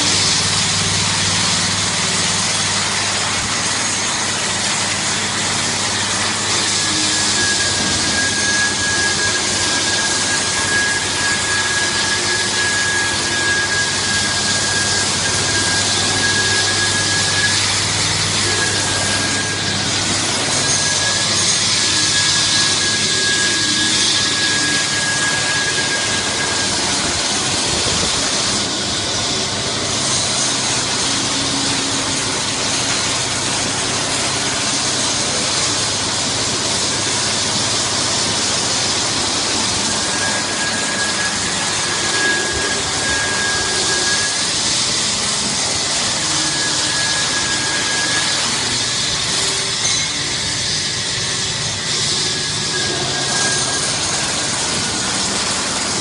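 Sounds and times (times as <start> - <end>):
rotating brushes scrubbing: 0.0 - 56.0
thin high whine: 0.0 - 56.0
water spraying: 0.0 - 56.0.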